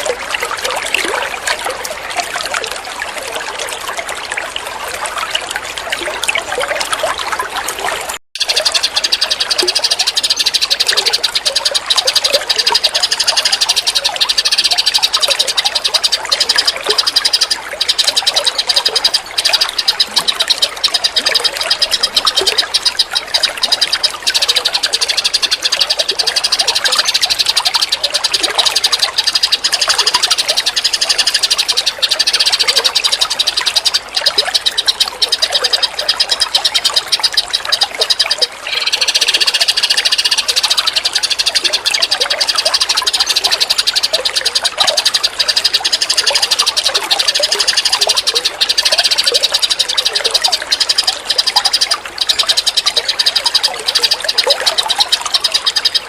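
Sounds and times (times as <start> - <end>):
songbirds singing: 3.8 - 56.0
rapid chirring chorus: 8.4 - 56.0.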